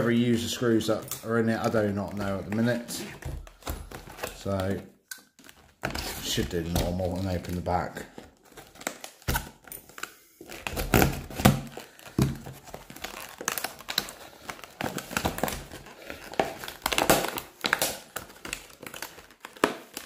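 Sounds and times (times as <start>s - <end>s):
packaging crinkling and tearing: 0.0s - 20.0s.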